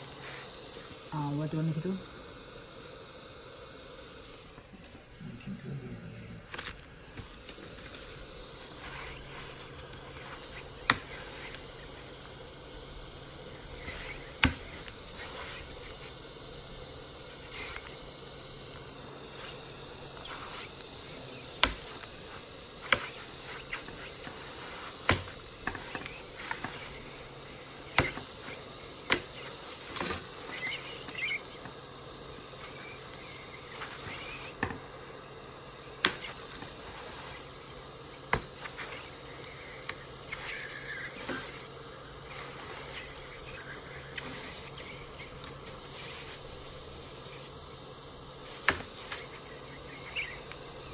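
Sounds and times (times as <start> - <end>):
heat gun running: 0.0 - 5.6, 6.4 - 50.9.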